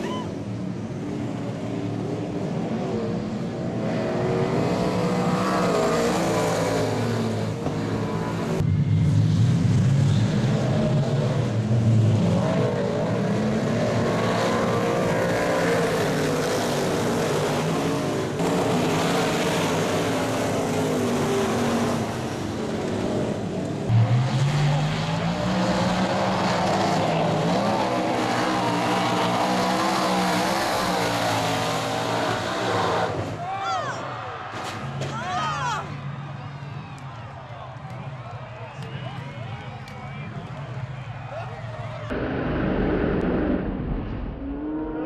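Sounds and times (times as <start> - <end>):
race car engines passing: 0.0 - 45.0.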